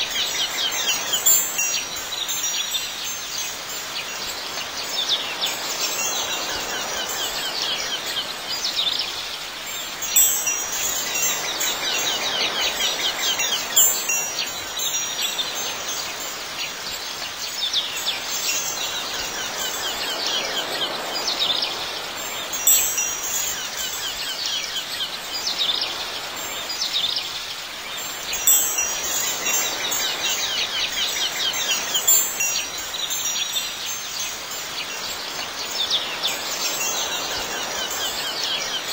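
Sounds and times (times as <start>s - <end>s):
wind chimes tinkling: 0.0s - 38.9s.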